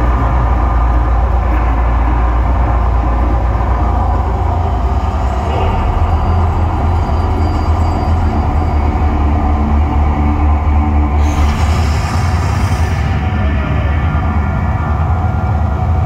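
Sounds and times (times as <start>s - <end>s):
deep rumble of gas flames: 0.0s - 16.0s.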